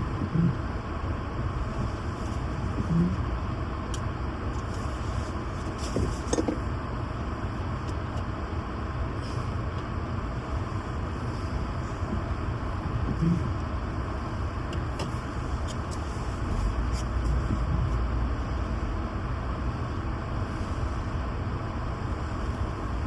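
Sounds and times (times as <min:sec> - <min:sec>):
vehicle road noise rumble: 0:00.0 - 0:23.0.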